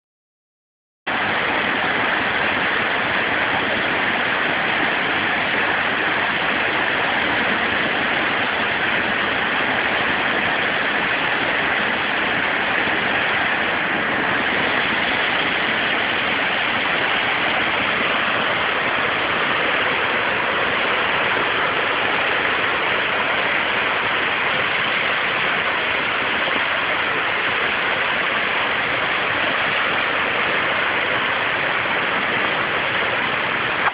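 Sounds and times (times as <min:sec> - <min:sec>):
waterfall pouring onto rocks: 0:01.1 - 0:33.9.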